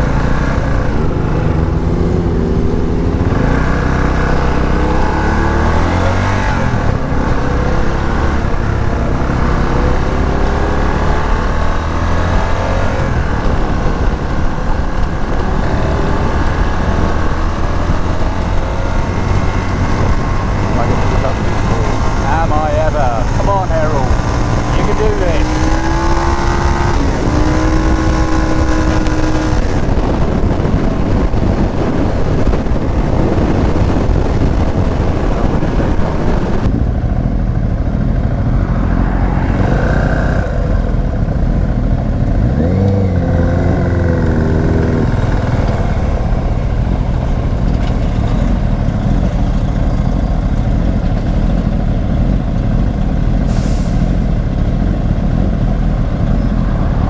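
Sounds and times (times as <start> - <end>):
loud constant rushing noise: 0.0 - 57.0
motorcycle engine pulling away: 0.0 - 57.0.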